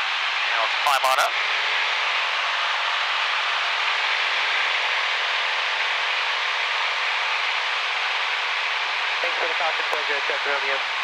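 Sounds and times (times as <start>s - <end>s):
airplane engine and propeller drone: 0.0s - 11.0s.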